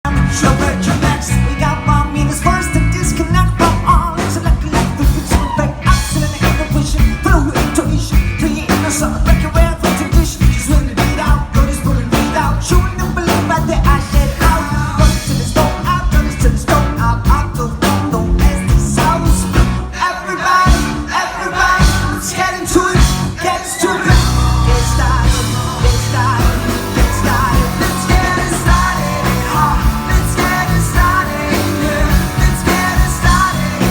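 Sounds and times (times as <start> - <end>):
live rock band playing: 0.0 - 33.9
person singing: 0.1 - 33.9.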